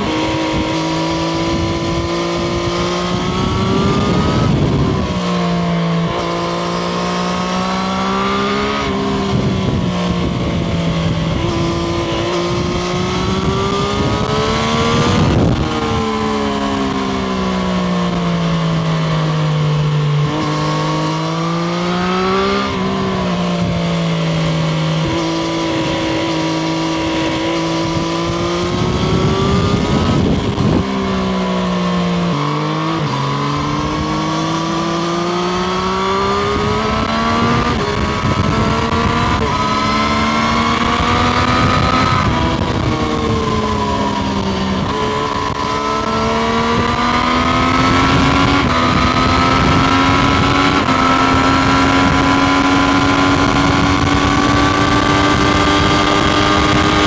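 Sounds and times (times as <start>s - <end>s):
wind noise rushing: 0.0s - 17.8s, 20.2s - 57.0s
motorcycle engine revving: 0.0s - 57.0s.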